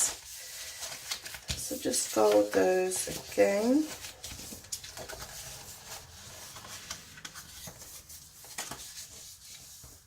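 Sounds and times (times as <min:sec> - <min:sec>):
paper being folded and creased: 0:00.0 - 0:10.0.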